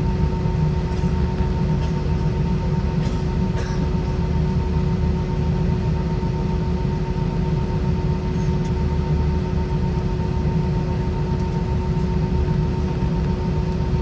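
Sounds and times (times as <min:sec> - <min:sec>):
airliner cabin rumble: 0:00.0 - 0:14.0
jet engine hum: 0:00.0 - 0:14.0.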